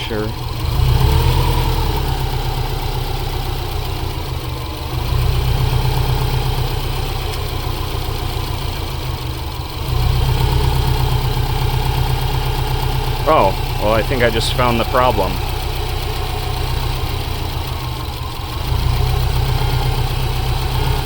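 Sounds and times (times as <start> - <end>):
car engine idling roughly: 0.0 - 21.0.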